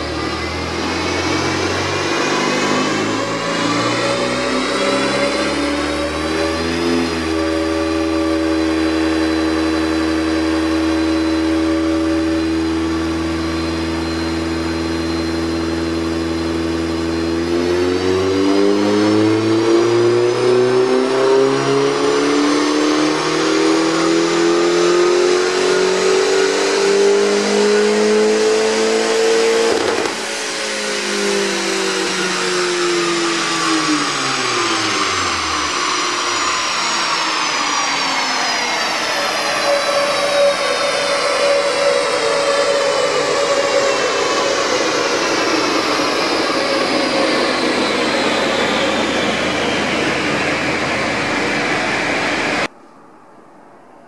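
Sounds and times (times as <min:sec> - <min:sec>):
turbocharged engine on dyno: 0:00.0 - 0:52.8.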